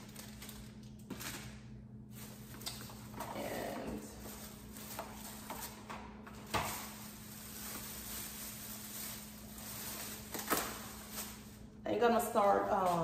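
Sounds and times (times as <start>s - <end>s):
plastic bag rustling and crinkling: 0.0s - 13.0s.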